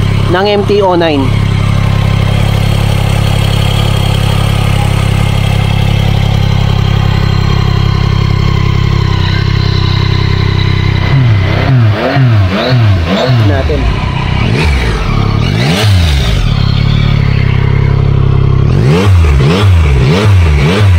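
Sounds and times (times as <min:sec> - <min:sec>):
motorcycle engine idling and revving: 0:00.0 - 0:20.9.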